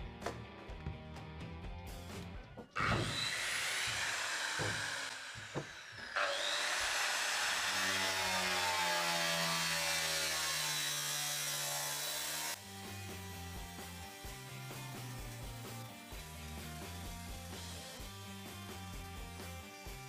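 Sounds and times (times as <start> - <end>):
angle grinder cutting sheet steel: 2.8 - 20.0.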